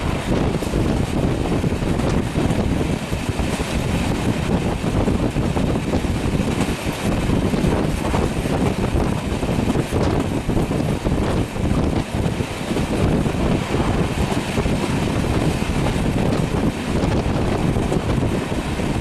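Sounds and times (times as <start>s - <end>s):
train wheels rumbling on rails: 0.0s - 19.0s
wind buffeting microphone: 0.0s - 19.0s.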